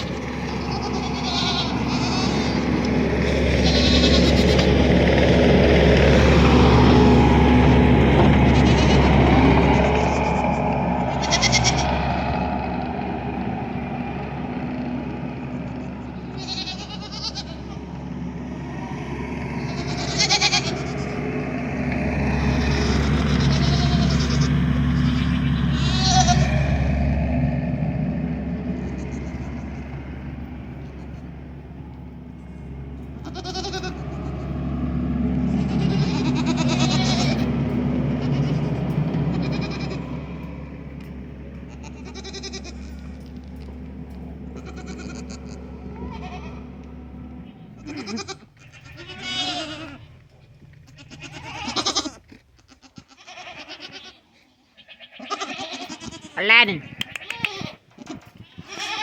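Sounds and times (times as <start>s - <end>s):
goats bleating: 0.0s - 27.0s, 28.6s - 59.0s
engine droning: 0.0s - 59.0s.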